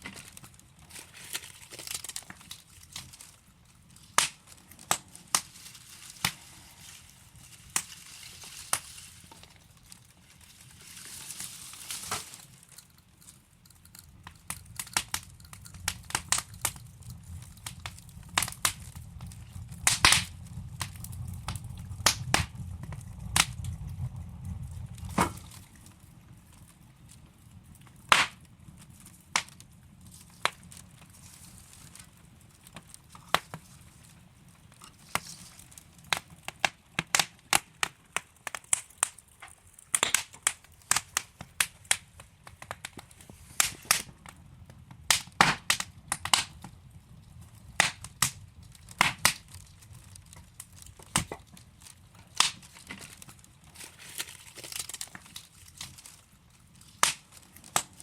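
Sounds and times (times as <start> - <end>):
soft fire hiss: 0.0 - 50.9
fire crackling and popping: 0.0 - 58.0
low rumble of flames: 0.0 - 58.0.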